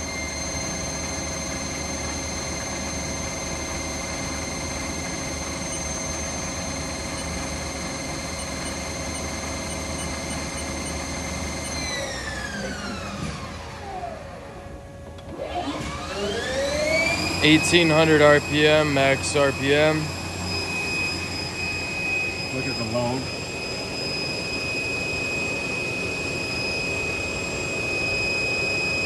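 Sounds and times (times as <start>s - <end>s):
lathe spindle whine: 0.0s - 29.0s.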